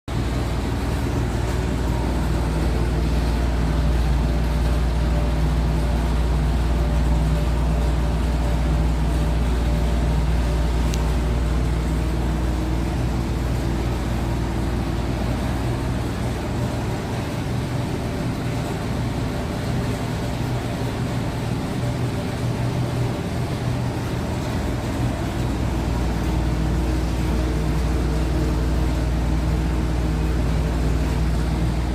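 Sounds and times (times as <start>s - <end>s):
air conditioner low hum: 0.1s - 31.9s.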